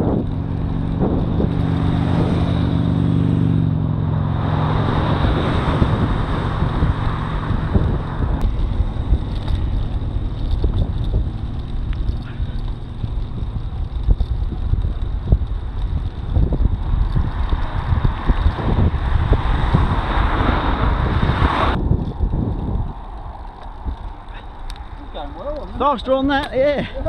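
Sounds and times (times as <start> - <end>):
bicycle road noise: 0.0 - 27.0
motor vehicle hum: 0.0 - 27.0
wind rumbling on microphone: 0.0 - 27.0.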